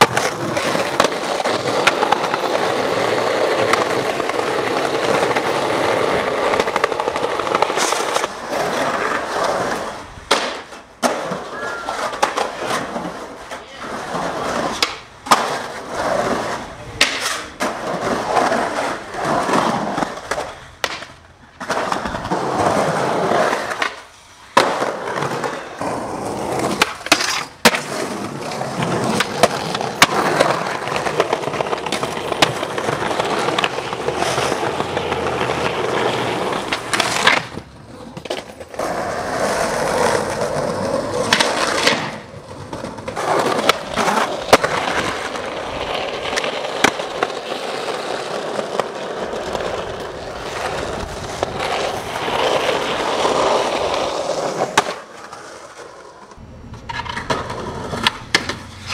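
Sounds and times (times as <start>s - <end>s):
skateboard clacks: 0.0s - 58.9s
skateboard wheels rolling on concrete: 0.0s - 58.9s.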